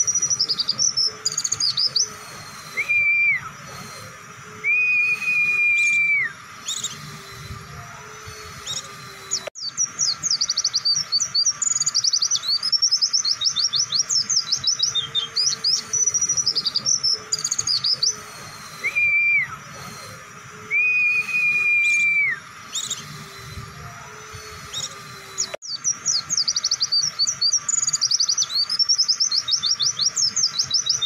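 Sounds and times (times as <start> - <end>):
bird singing rapid high chirps: 0.0 - 31.0
flat held bird whistles: 0.0 - 31.0.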